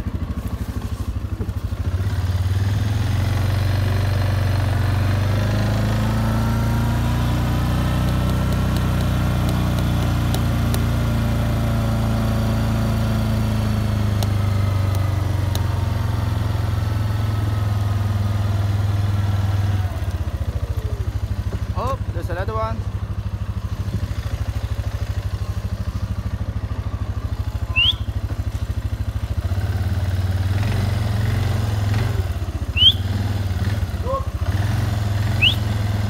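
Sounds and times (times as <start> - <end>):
small vehicle engine pulling away: 0.0 - 36.0.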